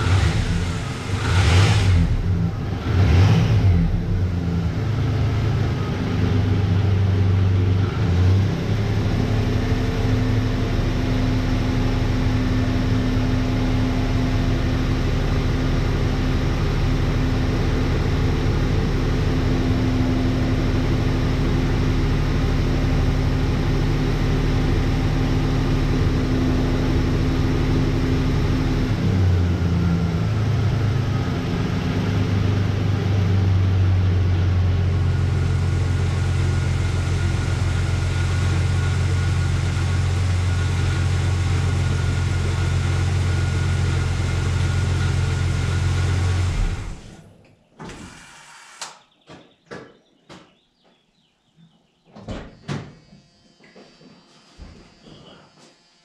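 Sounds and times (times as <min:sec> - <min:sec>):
engine idling: 0:00.0 - 0:47.3.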